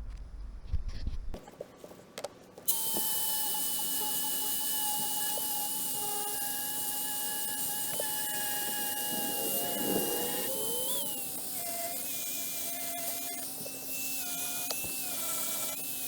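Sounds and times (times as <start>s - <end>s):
power tool whining: 2.7s - 16.0s.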